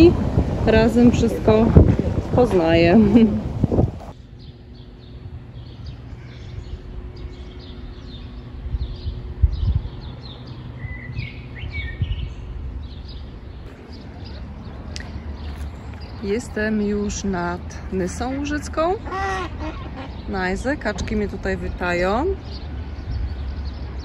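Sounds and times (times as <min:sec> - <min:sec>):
low steady rumble: 0:00.0 - 0:24.0
small birds chirping: 0:04.2 - 0:24.0.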